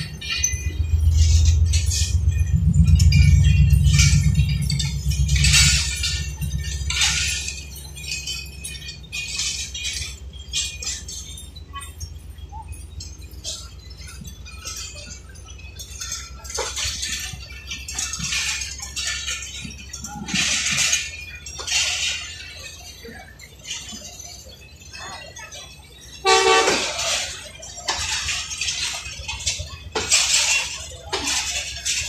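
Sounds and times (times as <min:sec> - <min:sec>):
train coaches rumbling past: 0:00.0 - 0:32.0
wheels clinking and squealing: 0:00.0 - 0:32.0.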